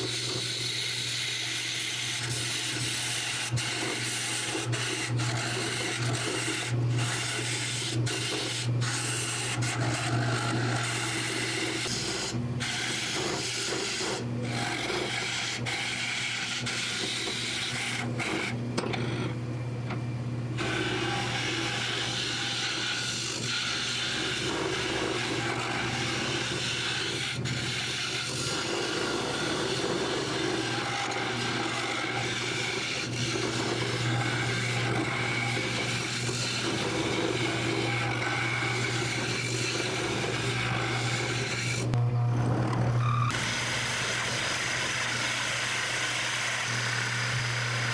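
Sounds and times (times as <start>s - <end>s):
turning tool scraping wood: 0.0s - 19.4s, 20.6s - 47.9s
wood lathe humming: 0.0s - 20.0s, 20.6s - 47.9s.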